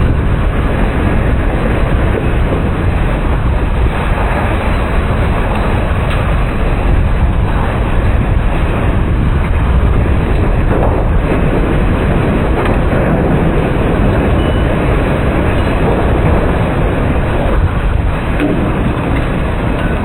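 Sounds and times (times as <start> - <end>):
tornado wind on microphone: 0.0 - 20.0.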